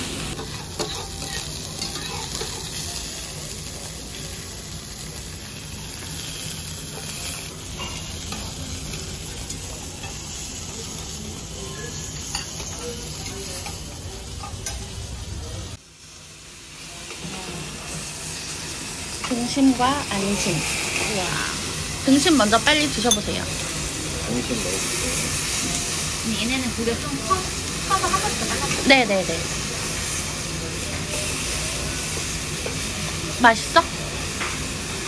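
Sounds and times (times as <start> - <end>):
beef sizzling on grill pan: 0.0 - 35.0.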